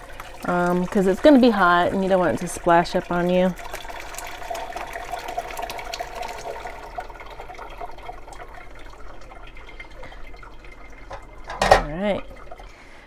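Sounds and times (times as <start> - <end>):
liquid pouring into cloth: 0.0 - 11.6.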